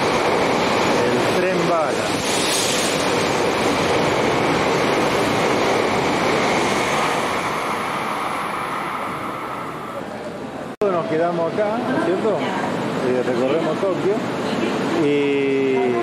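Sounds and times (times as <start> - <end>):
bullet train rushing past: 0.0 - 16.0.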